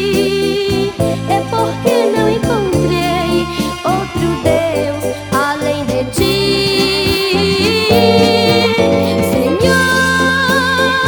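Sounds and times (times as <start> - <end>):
bass line: 0.0 - 11.0
gospel band playing held notes: 0.0 - 11.0.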